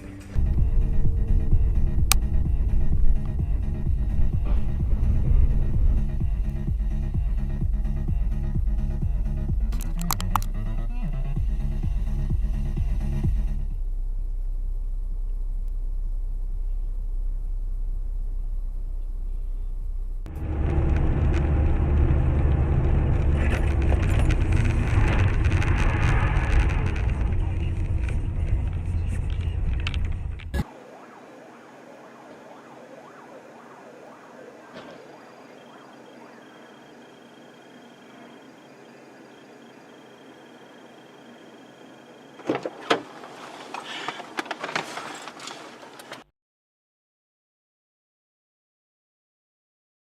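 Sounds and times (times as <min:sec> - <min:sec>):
road and engine rumble: 0:00.0 - 0:46.3.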